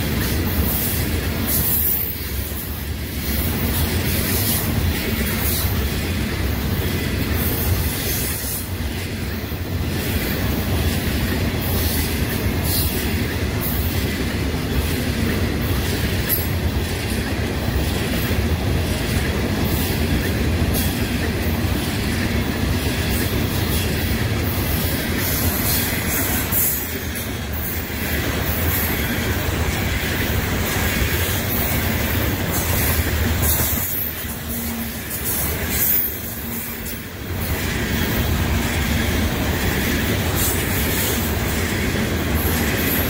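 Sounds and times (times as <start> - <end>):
freight train wheels clattering on rails: 0.0 - 43.0.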